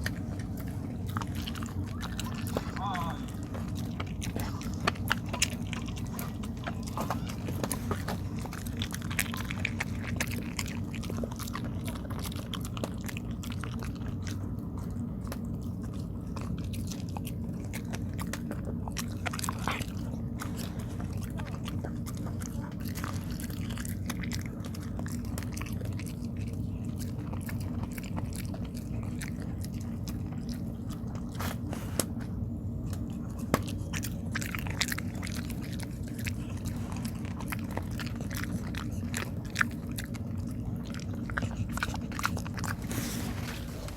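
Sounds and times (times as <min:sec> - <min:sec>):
constant low hum: 0:00.0 - 0:43.9
dog chewing with wet clicks: 0:00.0 - 0:43.9.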